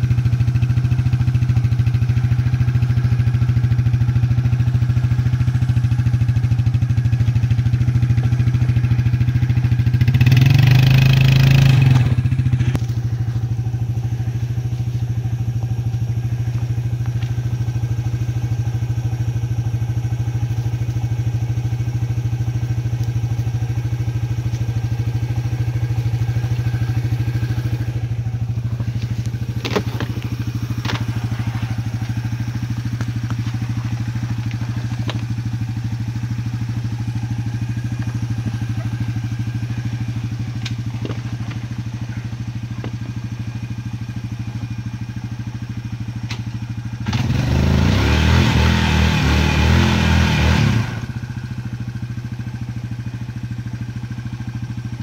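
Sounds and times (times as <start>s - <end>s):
atv engine revving and idling: 0.0s - 55.0s.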